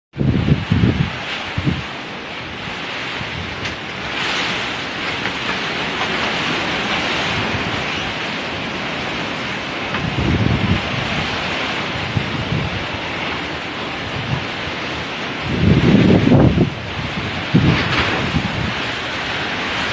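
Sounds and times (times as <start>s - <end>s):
strong wind gusting: 0.1s - 19.9s
wind buffeting microphone: 0.1s - 19.9s.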